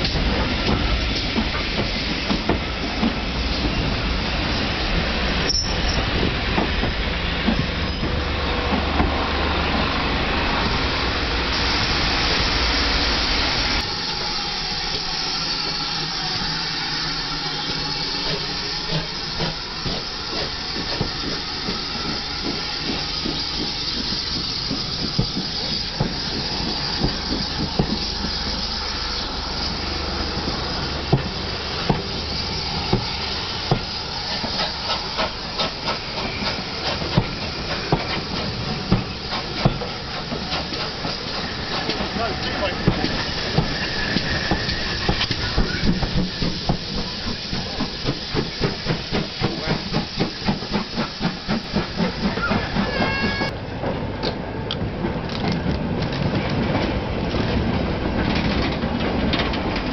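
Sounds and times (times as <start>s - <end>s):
train wheels clicking over rail joints: 0.0s - 10.8s, 13.2s - 59.9s
steam hissing: 0.0s - 53.6s
train rolling rumble: 0.0s - 59.9s.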